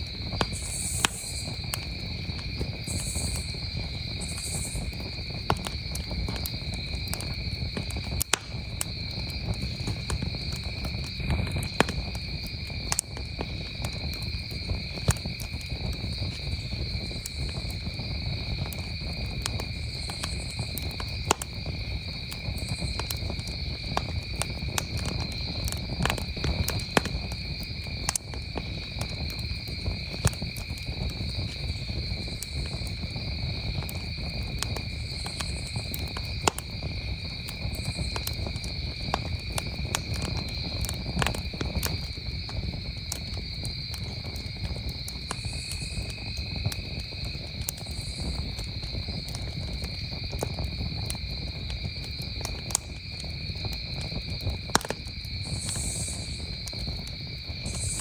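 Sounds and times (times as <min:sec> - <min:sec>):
campfire crackling and popping: 0:00.0 - 0:58.0
crickets trilling: 0:00.0 - 0:58.0
low rumble of fire: 0:00.0 - 0:58.0.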